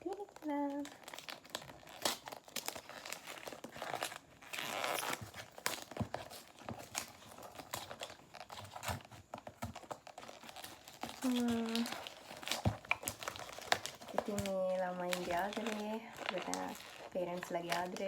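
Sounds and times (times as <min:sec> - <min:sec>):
wrapping paper crinkling and tearing: 0:00.0 - 0:18.0.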